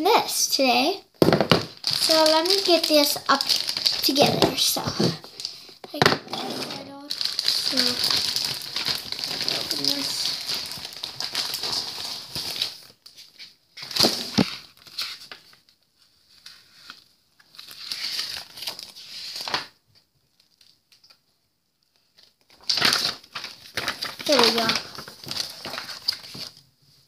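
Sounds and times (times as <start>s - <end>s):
plastic packaging crinkling: 1.2s - 21.2s, 21.8s - 26.7s.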